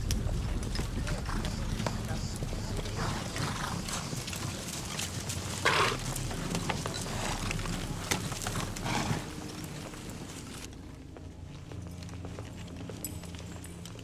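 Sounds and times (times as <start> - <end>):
horses galloping on dirt: 0.0 - 14.0.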